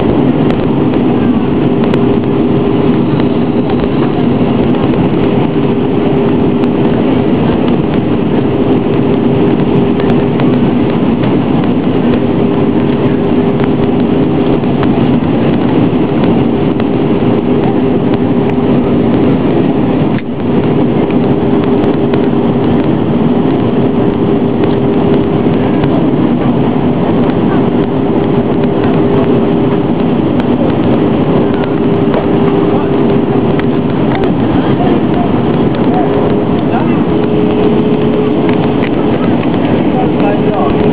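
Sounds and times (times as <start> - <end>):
airliner engine drone: 0.0 - 40.9
low hum tones: 0.0 - 40.9
rushing air: 0.0 - 40.9.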